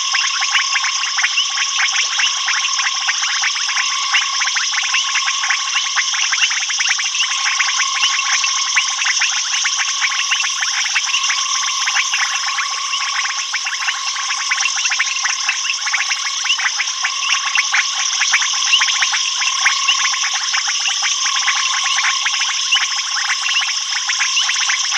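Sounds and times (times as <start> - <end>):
frogs clicking and pipping: 0.0 - 24.9
high-pitched insect trill: 0.0 - 24.9.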